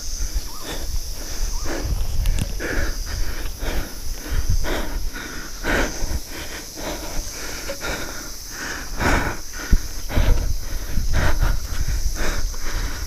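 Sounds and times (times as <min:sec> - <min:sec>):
high insect drone: 0:00.0 - 0:13.0
person breathing hard: 0:00.0 - 0:13.0.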